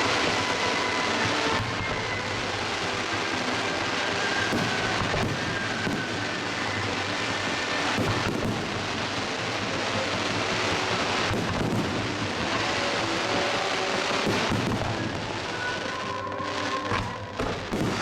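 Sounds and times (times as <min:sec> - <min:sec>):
sharp firework cracks: 0:00.0 - 0:18.0.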